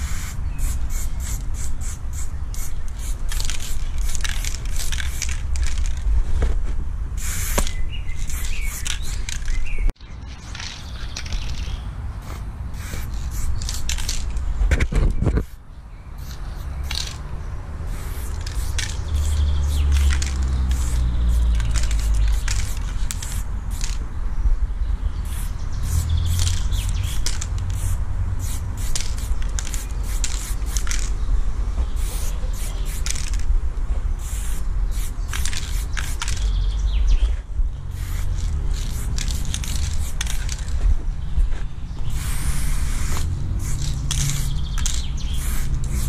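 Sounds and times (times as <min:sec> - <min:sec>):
spray paint can hissing: 0:00.0 - 0:06.1, 0:07.2 - 0:14.6, 0:15.2 - 0:15.6, 0:16.2 - 0:17.2, 0:17.9 - 0:24.0, 0:25.2 - 0:31.1, 0:32.0 - 0:33.5, 0:34.2 - 0:36.6, 0:37.9 - 0:40.7, 0:42.1 - 0:46.0.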